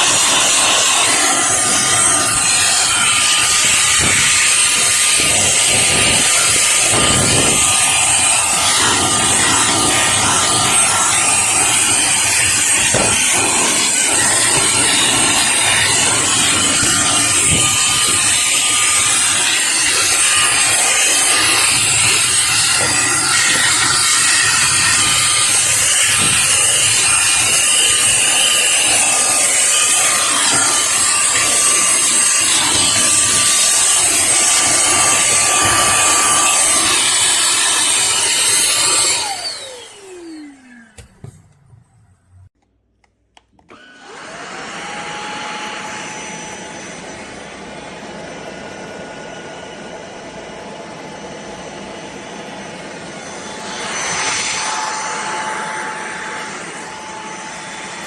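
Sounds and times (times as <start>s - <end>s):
stick vacuum motor whine: 0.0s - 58.0s.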